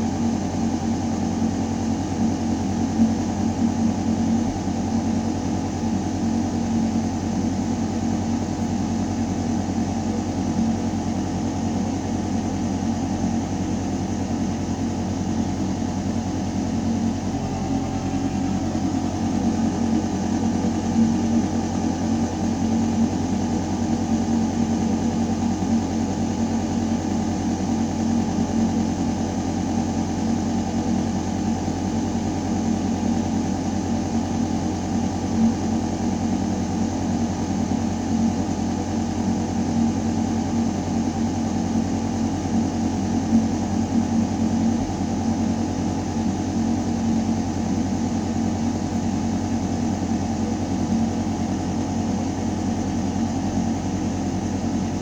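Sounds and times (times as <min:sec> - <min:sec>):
ventilation system hum: 0:00.0 - 0:55.0.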